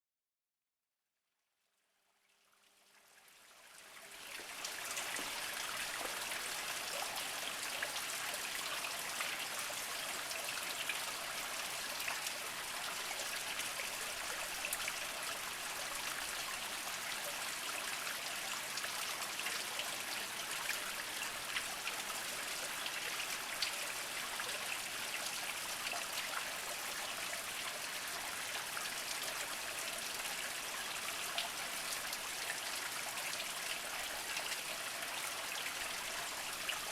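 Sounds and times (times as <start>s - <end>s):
spring water trickling over rocks: 3.5s - 36.9s.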